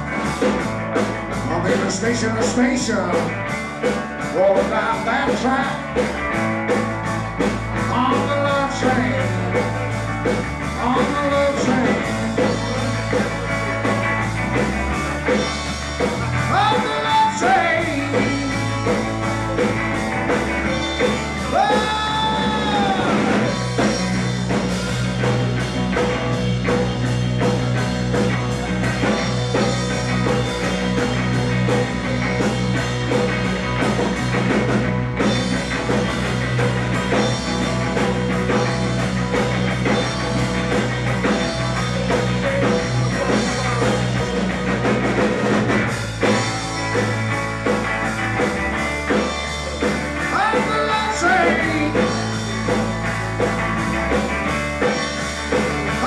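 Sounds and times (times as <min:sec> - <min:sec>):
bending lead guitar line: 0:00.0 - 0:56.0
live rock band playing: 0:00.0 - 0:56.0.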